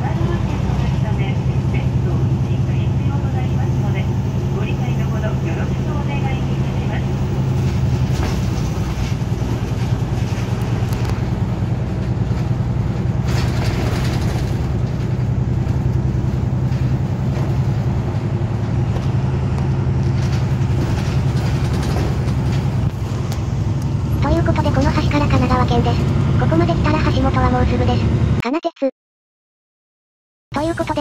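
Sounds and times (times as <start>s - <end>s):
rush of road noise: 0.0s - 28.4s
bus engine droning: 0.0s - 28.5s, 30.5s - 31.0s.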